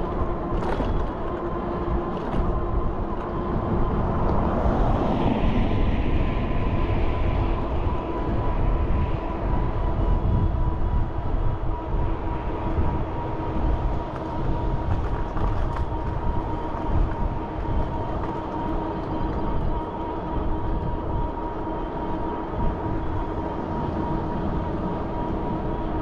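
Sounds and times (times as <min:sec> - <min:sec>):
constant whine: 0:00.0 - 0:26.0
wind and bicycle rolling noise: 0:00.0 - 0:26.0.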